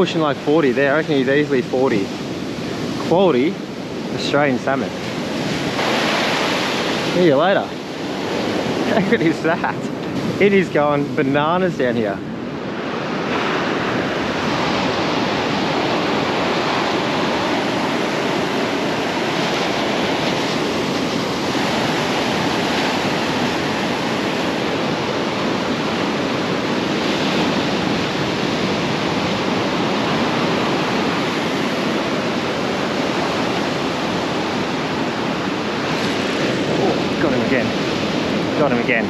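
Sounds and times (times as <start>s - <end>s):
ocean surf breaking on beach: 0.0s - 39.0s.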